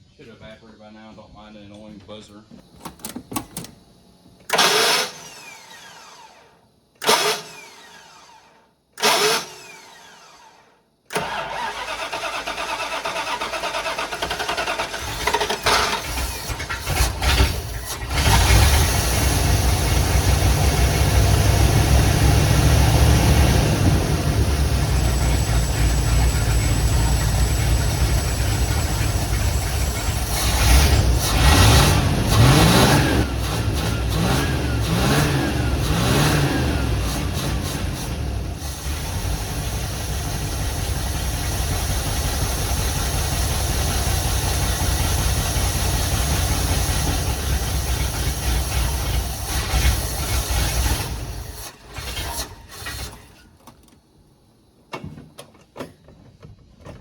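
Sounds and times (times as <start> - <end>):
car engine starting and running: 2.8 - 8.4, 11.1 - 53.8.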